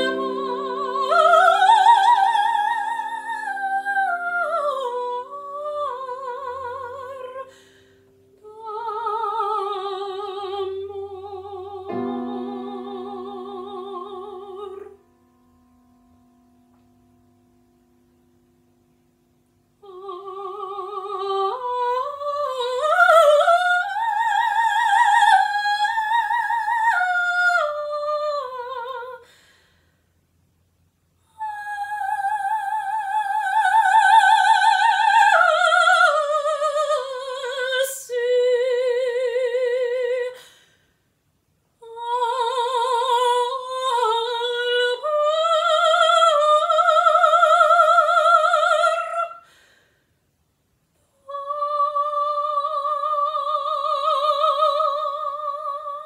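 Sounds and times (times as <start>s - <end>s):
soprano singing opera: 0.0s - 15.0s, 19.8s - 29.5s, 31.2s - 40.6s, 41.8s - 49.6s, 51.0s - 56.0s.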